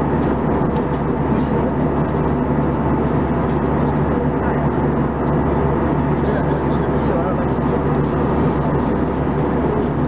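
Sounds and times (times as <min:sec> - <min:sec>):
jet engines droning: 0:00.0 - 0:10.0.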